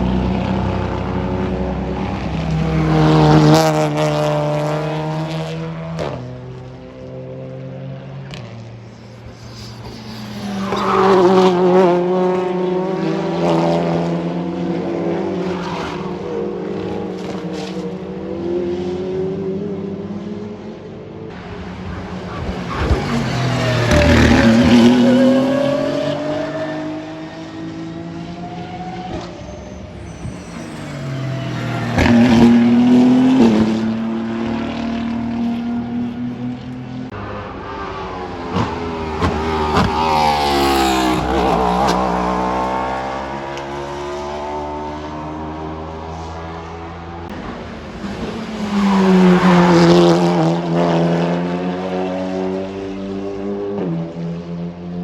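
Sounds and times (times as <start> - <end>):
racing cars passing: 0.0 - 55.0.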